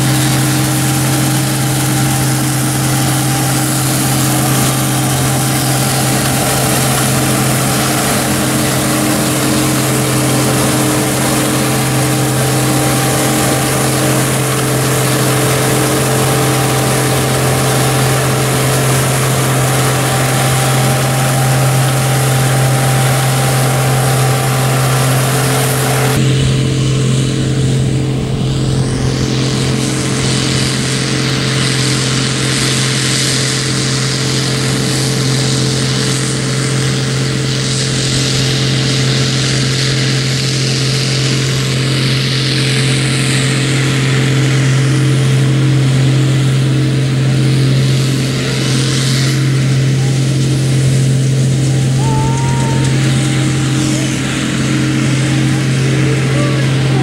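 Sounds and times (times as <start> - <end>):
diesel engine drone: 0.0 - 57.0
threshing machinery hum: 0.0 - 57.0.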